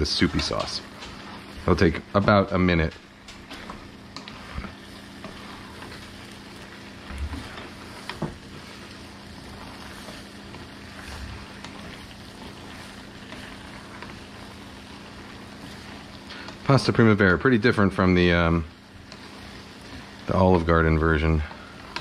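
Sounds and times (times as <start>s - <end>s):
sauce simmering hiss: 0.0s - 22.0s.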